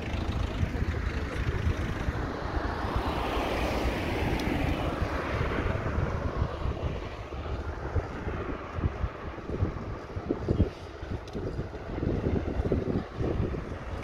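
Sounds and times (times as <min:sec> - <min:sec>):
passing vehicle engine: 0:00.0 - 0:14.0
steady low rumble: 0:00.0 - 0:14.0.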